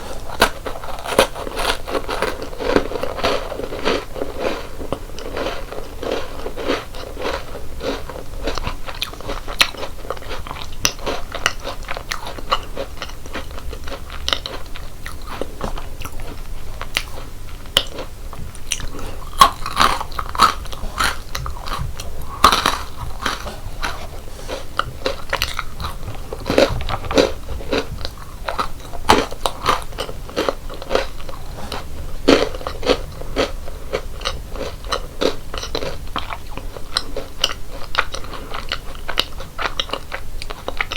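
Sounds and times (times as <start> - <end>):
crunching and chewing snacks: 0.0 - 40.9.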